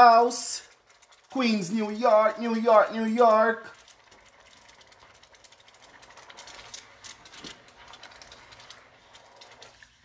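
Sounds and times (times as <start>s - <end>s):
sauce sizzling in a skillet: 0.0s - 10.0s.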